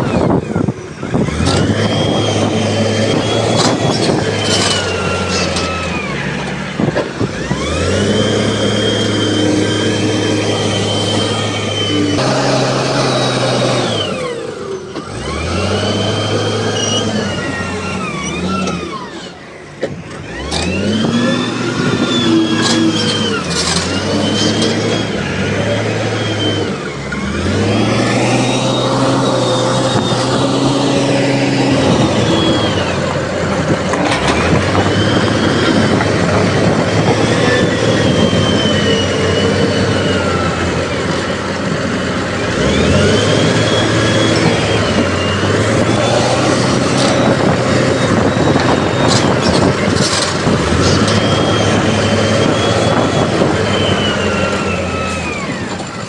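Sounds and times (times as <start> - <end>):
heavy machinery diesel engines revving: 0.0 - 56.0.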